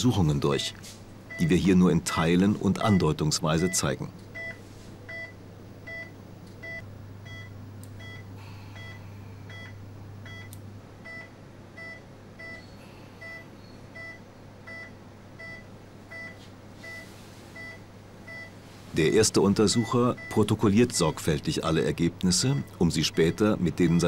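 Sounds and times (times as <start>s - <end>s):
low equipment hum: 0.0s - 24.0s
patient monitor beeps: 0.4s - 24.0s.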